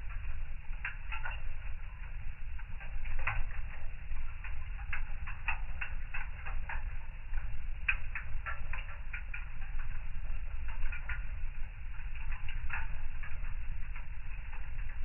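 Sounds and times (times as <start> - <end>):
fire crackling: 0.0 - 15.0
fire popping and snapping: 0.0 - 15.0
low steady rumble: 0.0 - 15.0.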